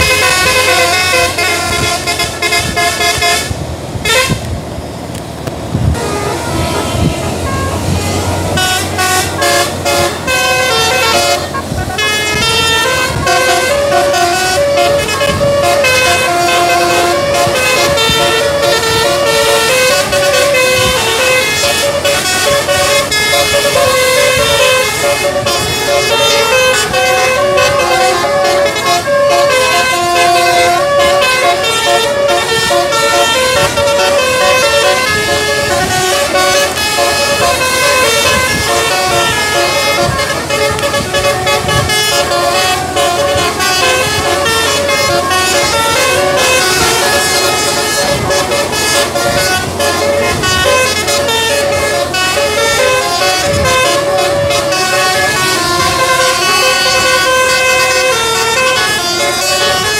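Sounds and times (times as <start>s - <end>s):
musical air horn melody: 0.0s - 4.5s, 5.8s - 59.9s.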